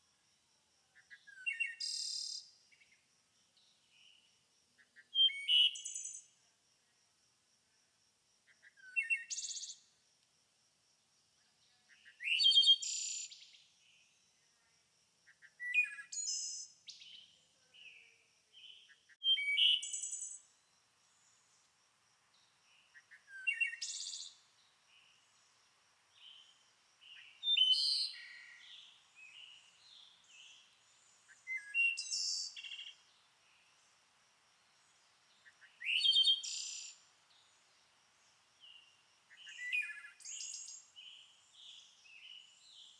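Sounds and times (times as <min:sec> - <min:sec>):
songbird singing: 0:00.8 - 0:06.4, 0:08.5 - 0:10.0, 0:11.4 - 0:14.6, 0:15.3 - 0:42.9.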